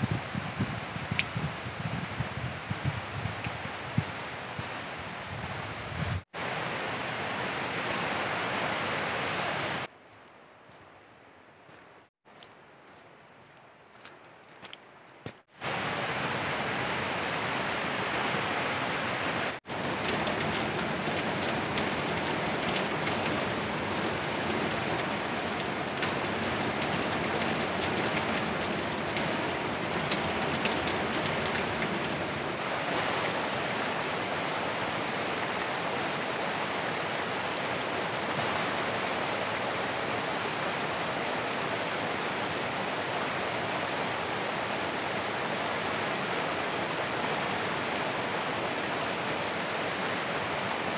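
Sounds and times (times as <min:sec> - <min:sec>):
stream rushing over boulders: 0:00.0 - 0:10.0, 0:11.7 - 0:50.9.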